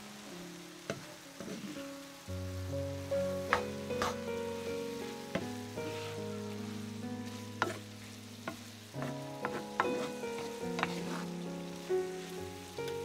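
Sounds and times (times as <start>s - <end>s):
meat sizzling in a frying pan: 0.0s - 13.0s
soft background music: 0.0s - 13.0s
wooden spoon scraping a pan: 0.9s - 1.9s, 3.4s - 13.0s.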